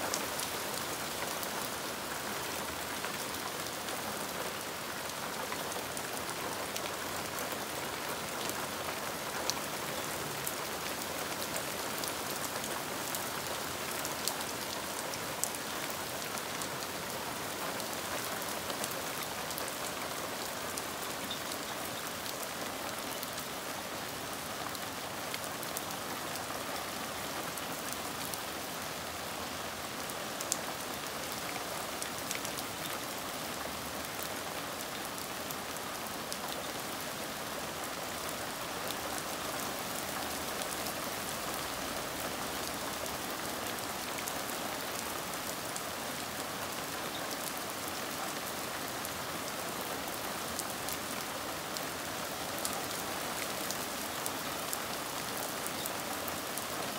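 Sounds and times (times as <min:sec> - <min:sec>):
hard rain on plants and boards: 0:00.0 - 0:56.9.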